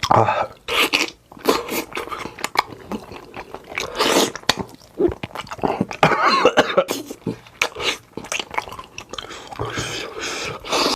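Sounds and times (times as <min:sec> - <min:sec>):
chewing with wet mouth smacks: 0:00.0 - 0:06.1, 0:07.0 - 0:10.8.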